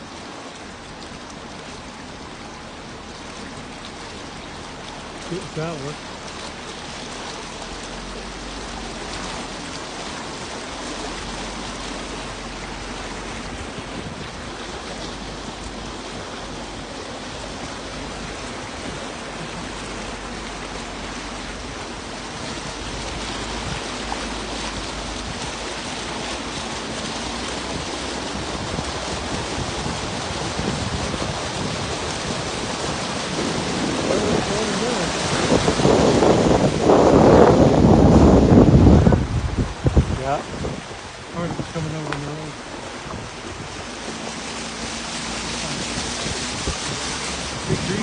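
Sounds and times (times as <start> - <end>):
floodwater rushing: 0.0 - 48.0
low engine hum: 0.0 - 48.0.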